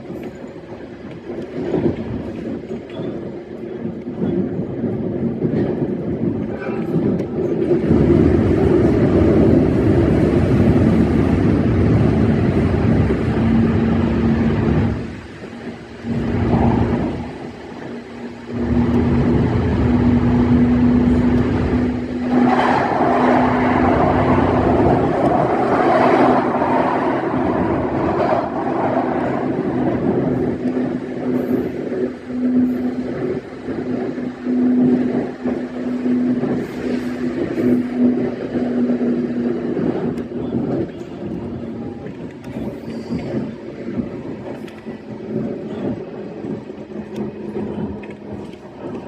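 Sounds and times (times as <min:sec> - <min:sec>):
electric train hum: 0:00.0 - 0:49.0
rumbling rail noise: 0:00.0 - 0:49.0.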